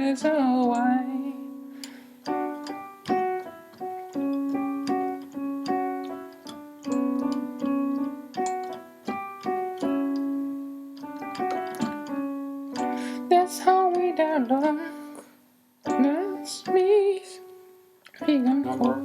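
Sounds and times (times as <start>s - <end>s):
piano melody: 0.0s - 19.0s.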